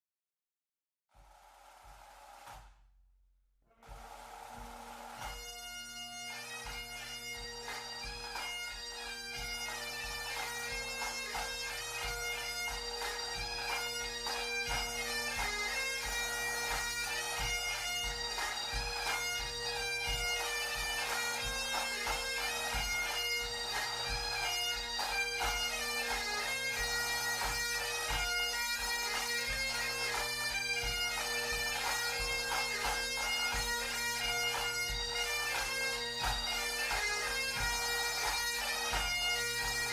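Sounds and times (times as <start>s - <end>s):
bagpipe drone: 3.8s - 39.9s
bagpipe chanter melody: 3.9s - 39.9s.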